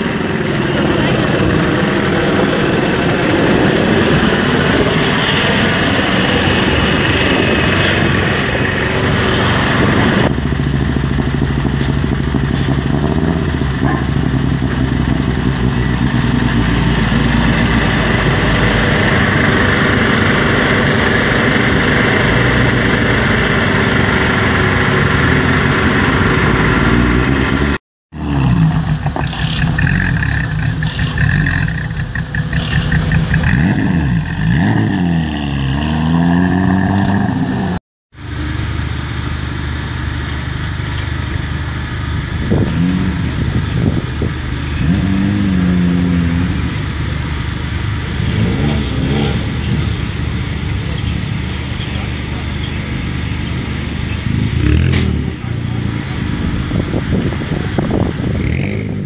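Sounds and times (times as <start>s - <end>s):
rally car engines running: 0.0s - 59.0s.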